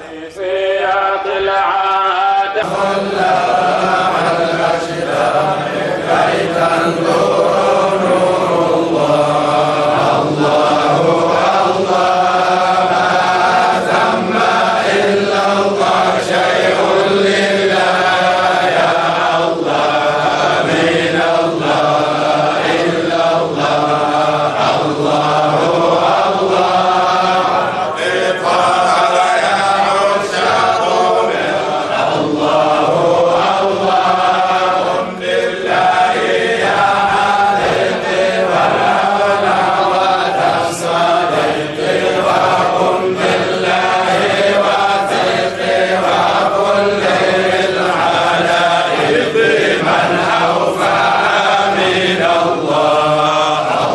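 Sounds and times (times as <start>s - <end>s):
voices chanting devotional verses: 0.0s - 53.9s.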